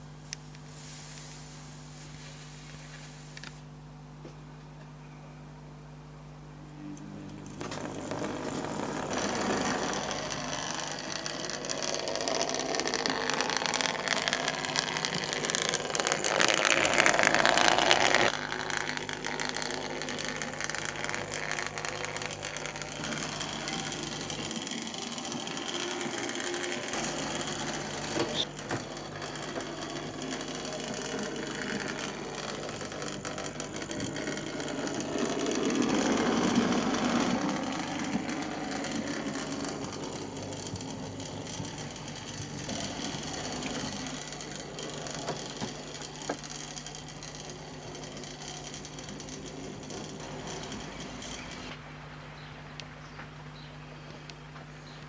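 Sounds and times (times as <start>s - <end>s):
model train motor whirring: 7.4s - 51.8s
wheels clicking over rail joints: 7.4s - 51.8s.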